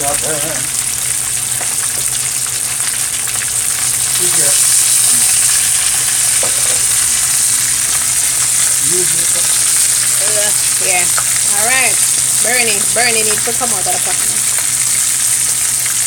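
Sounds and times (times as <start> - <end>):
oil sizzling and crackling: 0.0 - 16.0.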